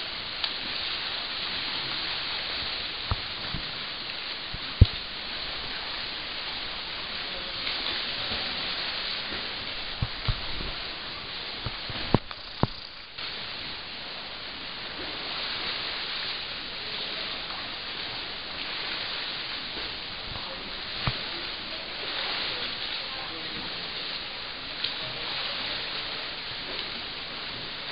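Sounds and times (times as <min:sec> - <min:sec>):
water churned by swimmers: 0:00.0 - 0:27.9.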